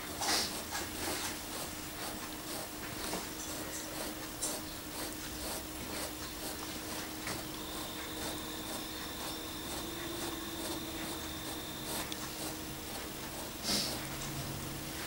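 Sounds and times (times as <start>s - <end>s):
cat licking fabric: 0.0s - 14.4s
faint steady hum: 0.0s - 15.0s.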